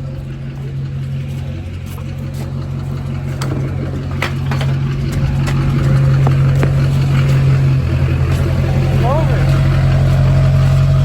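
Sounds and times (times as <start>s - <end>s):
diesel engine exhaust drone: 0.0s - 11.0s.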